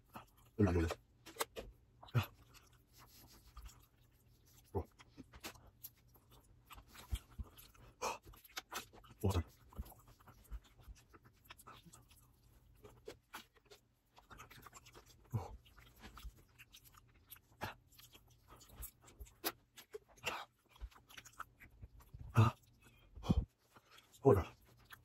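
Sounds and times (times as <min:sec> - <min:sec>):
person chewing: 0:00.0 - 0:25.0.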